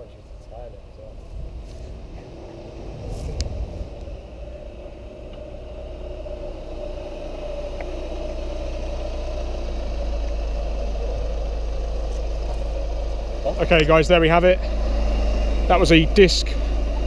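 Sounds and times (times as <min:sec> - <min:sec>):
diesel car engine approaching: 0:00.0 - 0:17.0.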